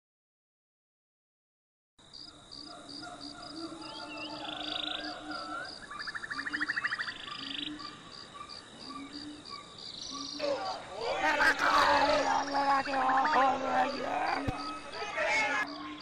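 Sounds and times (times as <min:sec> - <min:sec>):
frogs croaking: 0:02.0 - 0:16.0
insects chirping and buzzing: 0:02.0 - 0:16.0.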